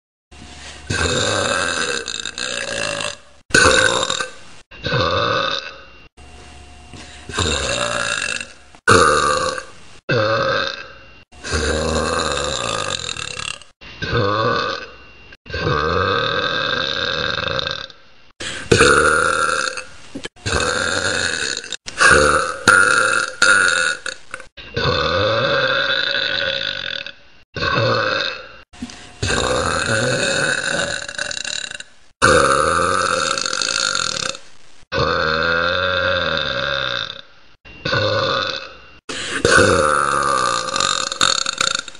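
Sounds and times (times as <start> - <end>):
woman burping: 0.9 - 5.9, 7.3 - 14.9, 15.5 - 28.6, 29.2 - 41.9.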